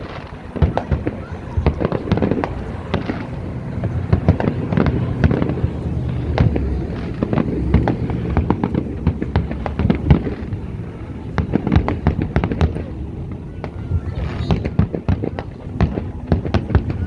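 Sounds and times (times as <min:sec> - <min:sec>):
fireworks bangs and pops: 0:00.0 - 0:17.0
low rumble: 0:00.0 - 0:17.0.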